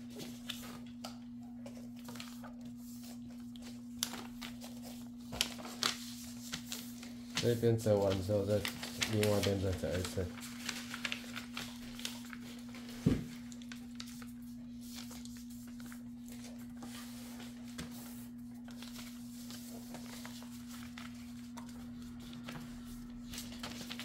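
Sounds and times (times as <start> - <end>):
paper rustling and creasing: 0.0 - 1.0, 1.7 - 24.0.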